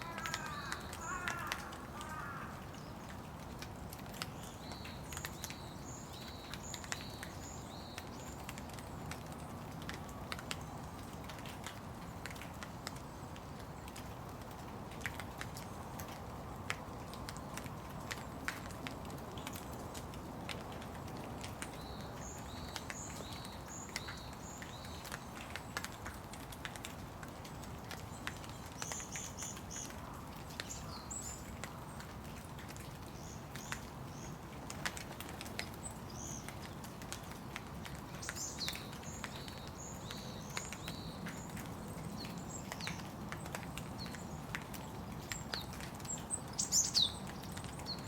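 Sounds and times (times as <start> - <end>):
drips pattering close by: 0.0 - 48.0
steady rain falling: 0.0 - 48.0.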